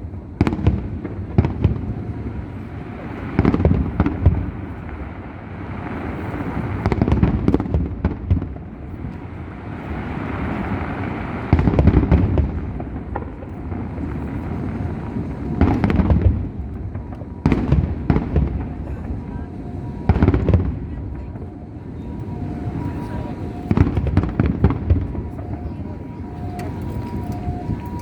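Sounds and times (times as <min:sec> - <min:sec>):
fireworks banging: 0:00.0 - 0:28.0
fireworks crackling: 0:00.0 - 0:28.0.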